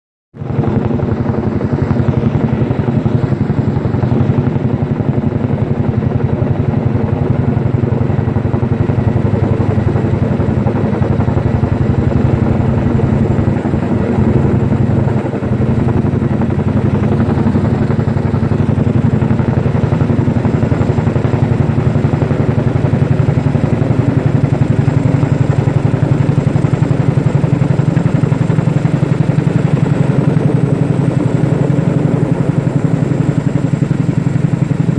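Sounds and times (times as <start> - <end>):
helicopter rotor chopping: 0.4 - 34.9.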